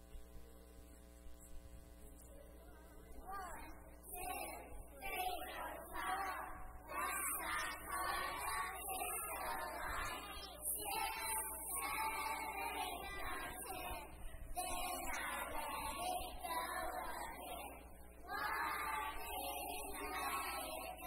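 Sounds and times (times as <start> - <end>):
children singing in unison: 4.0 - 21.0.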